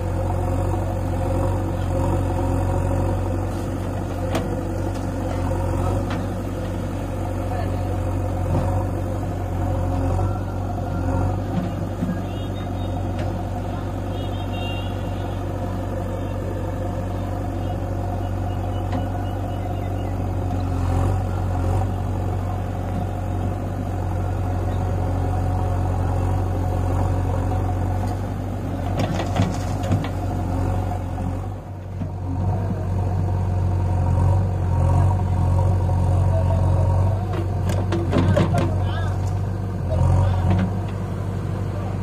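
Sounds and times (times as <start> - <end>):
backhoe loader diesel running: 0.0 - 42.0
tractor diesel engine running: 0.0 - 42.0.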